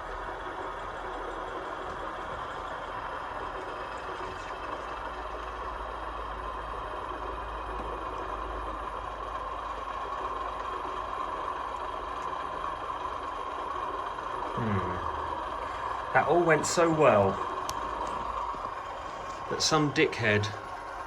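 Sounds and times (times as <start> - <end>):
model diesel engine idling: 0.0 - 21.0.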